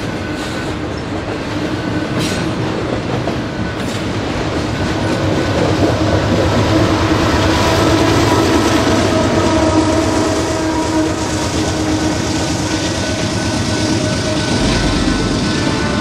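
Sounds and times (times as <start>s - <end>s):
diesel locomotive: 0.0s - 16.0s
train wagons clattering over rails: 0.0s - 16.0s.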